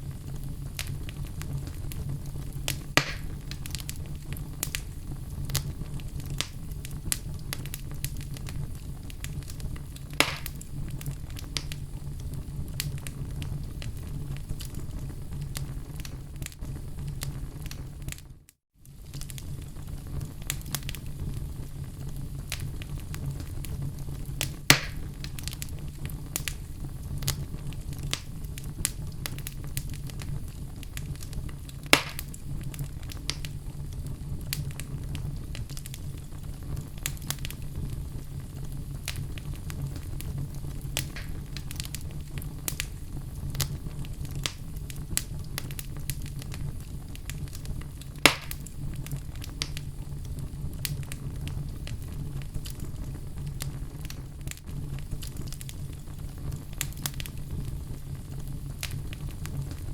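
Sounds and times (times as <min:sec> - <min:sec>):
fire crackling: 0:00.0 - 0:59.9
loud fire pops: 0:00.0 - 0:59.9.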